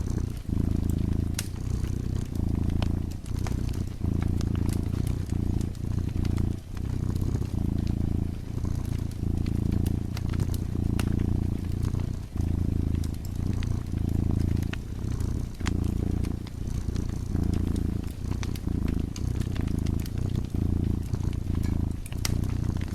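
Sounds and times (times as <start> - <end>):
cat purring: 0.0 - 22.9
wood fire crackling: 0.0 - 22.9.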